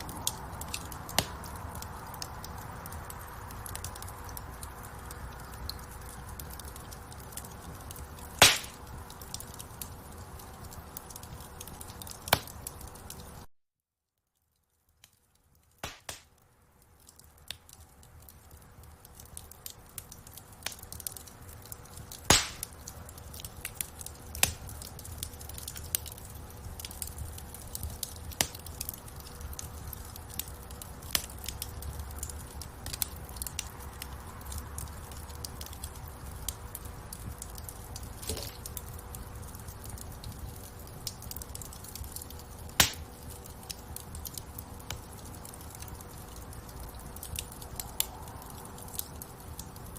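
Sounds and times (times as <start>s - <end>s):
low rumble of flames: 0.0s - 13.5s, 14.6s - 49.9s
wood fire crackling and popping: 0.0s - 13.5s, 14.4s - 49.9s.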